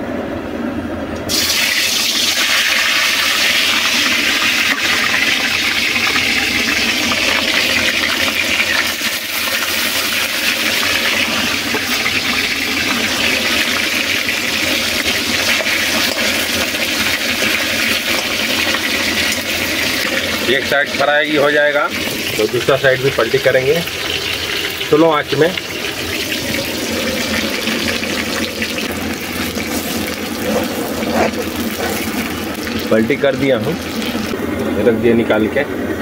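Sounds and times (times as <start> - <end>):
fish sizzling in hot oil: 1.3 - 34.6.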